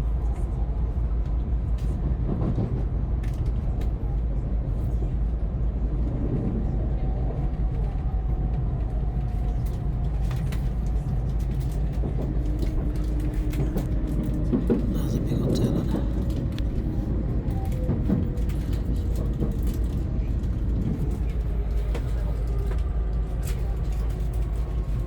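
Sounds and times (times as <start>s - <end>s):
train running with deep rumble: 0.0s - 25.0s.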